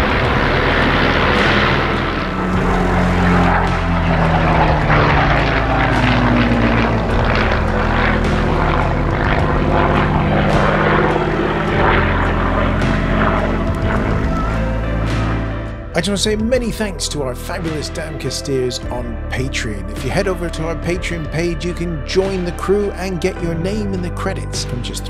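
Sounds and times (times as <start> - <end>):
small biplane engines: 0.0 - 16.0, 16.9 - 25.0
propeller plane engine droning: 0.0 - 25.0.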